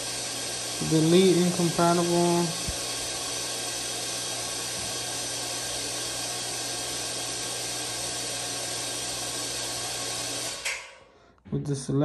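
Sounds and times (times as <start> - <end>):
pump motor humming: 0.0 - 11.0.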